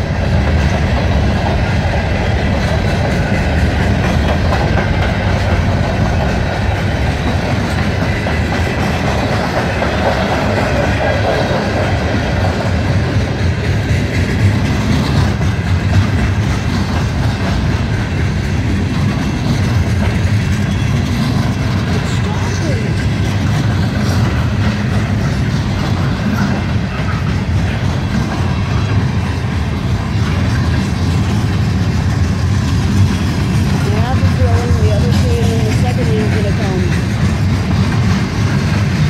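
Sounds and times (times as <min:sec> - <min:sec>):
freight train wheels on rail: 0:00.0 - 0:39.0.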